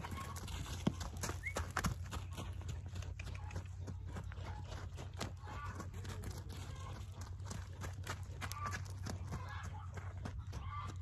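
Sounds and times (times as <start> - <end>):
hoofbeats on dirt: 0.0 - 11.0.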